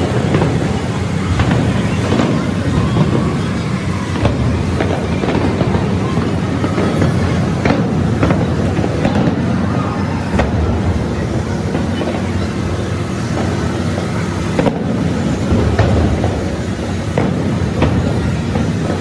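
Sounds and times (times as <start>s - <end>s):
fireworks booming: 0.0s - 19.0s
sharp firework bangs: 0.0s - 19.0s.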